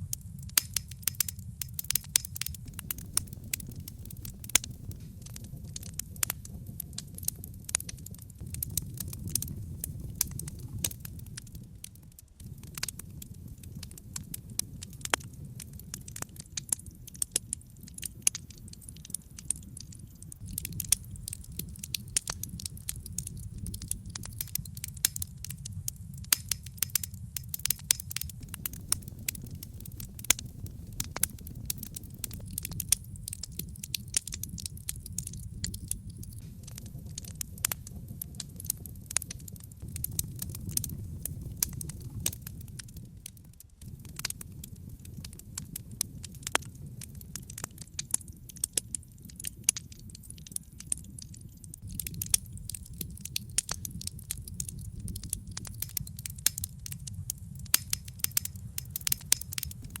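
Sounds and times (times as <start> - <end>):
low rumble of flames: 0.0 - 60.0
wood fire crackling: 0.0 - 60.0.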